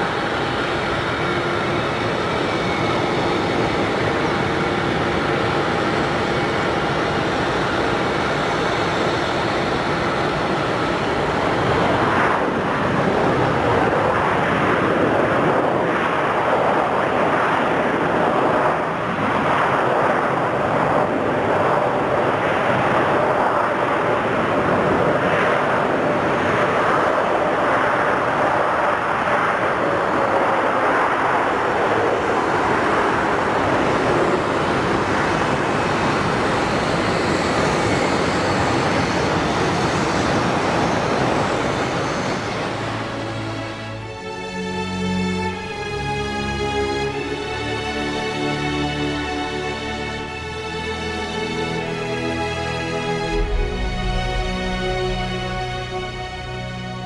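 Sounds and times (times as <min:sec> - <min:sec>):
jet engine rushing roar: 0:00.0 - 0:44.3, 0:45.5 - 0:57.0
jet engine whine: 0:00.0 - 0:57.0.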